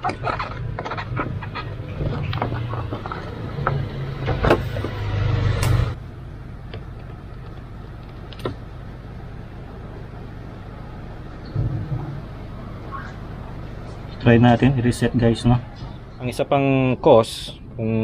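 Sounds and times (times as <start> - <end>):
car engine idling: 0.0 - 18.0
steady background noise: 0.0 - 18.0.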